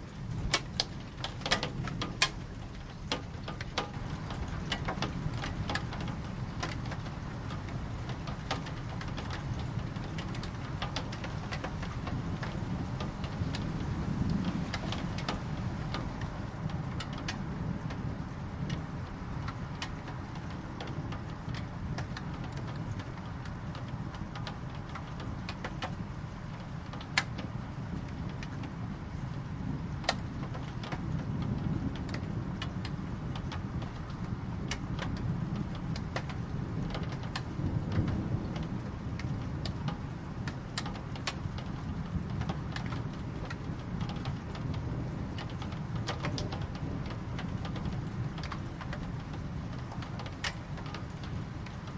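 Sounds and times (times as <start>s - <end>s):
raindrops striking hard surface: 0.0s - 51.9s
steady rain: 0.0s - 51.9s.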